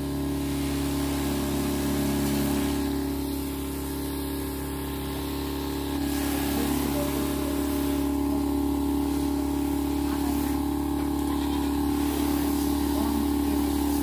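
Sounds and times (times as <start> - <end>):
sprayer pump humming: 0.0 - 14.0
nozzle hissing spray: 0.2 - 14.0.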